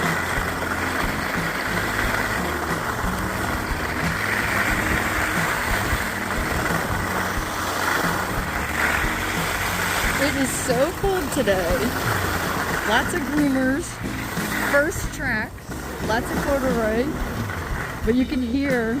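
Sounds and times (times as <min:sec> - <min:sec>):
skis scraping over hard snow: 0:00.0 - 0:19.0.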